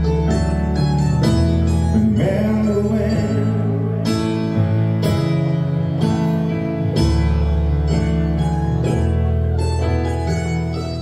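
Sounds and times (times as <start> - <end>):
electric bass line: 0.0 - 11.0
keyboard chords: 0.0 - 11.0.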